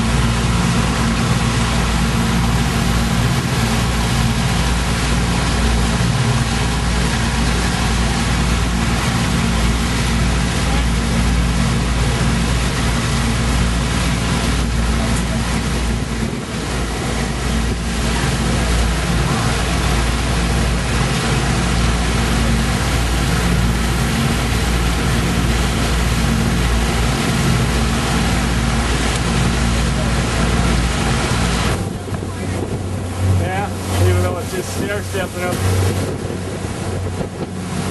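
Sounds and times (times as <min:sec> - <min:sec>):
boat engine running: 0:00.0 - 0:37.9
wind and water rushing: 0:00.0 - 0:37.9.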